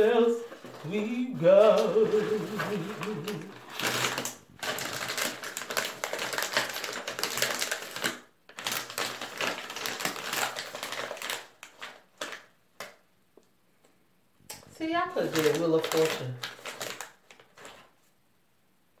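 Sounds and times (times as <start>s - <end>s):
snack bag crinkling: 0.0s - 13.0s, 14.5s - 18.0s.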